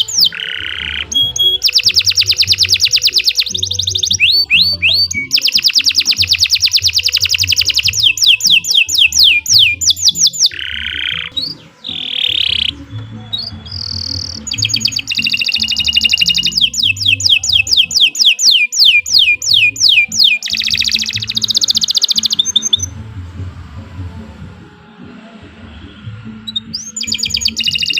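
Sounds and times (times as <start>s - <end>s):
canary singing trills: 0.0s - 23.1s, 24.9s - 27.9s.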